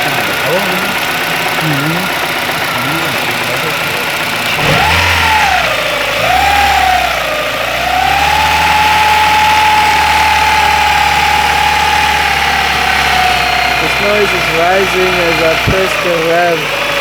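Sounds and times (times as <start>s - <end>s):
car engine whining: 0.0s - 17.0s.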